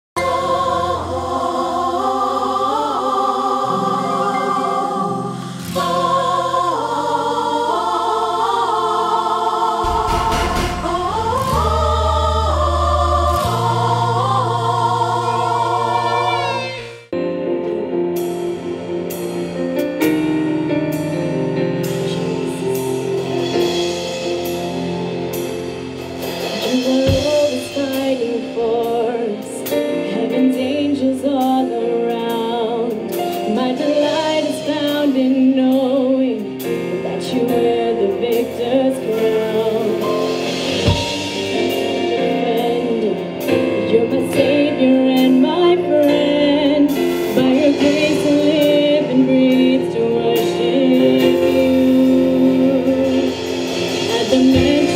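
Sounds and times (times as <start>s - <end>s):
women singing into microphones: 0.2s - 16.8s, 26.6s - 54.9s
keyboard chords: 0.2s - 54.9s.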